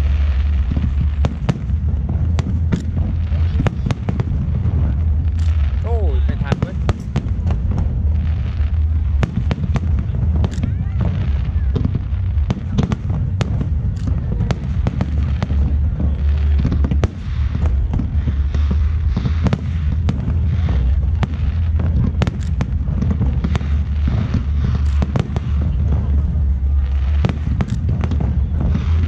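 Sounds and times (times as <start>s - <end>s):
fireworks bangs and crackles: 0.0s - 29.0s
low rumble: 0.0s - 29.0s.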